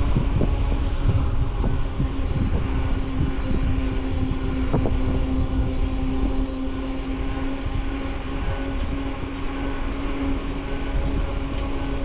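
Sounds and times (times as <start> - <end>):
steady even-pitched whine: 0.0 - 12.0
wind rumble on microphone: 0.0 - 12.0.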